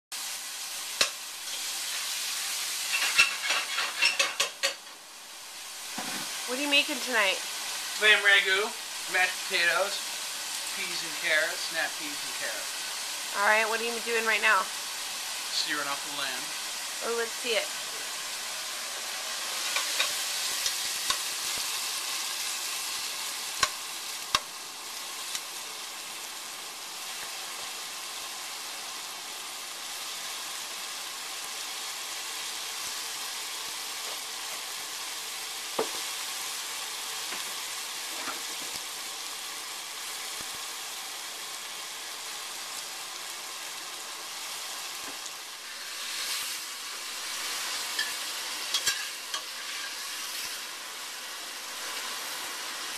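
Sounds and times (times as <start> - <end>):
meat sizzling in oil: 0.1 - 52.9.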